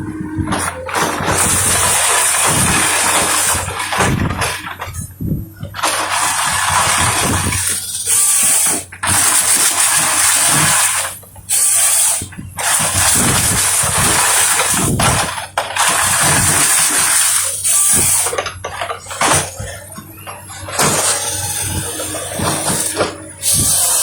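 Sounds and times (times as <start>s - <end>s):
harvester machinery running: 0.0s - 24.0s.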